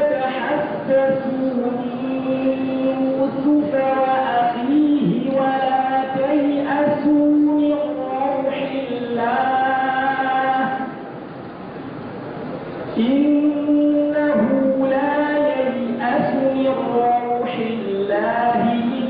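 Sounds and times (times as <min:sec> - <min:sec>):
man chanting melodically: 0:00.0 - 0:11.0, 0:13.0 - 0:19.0.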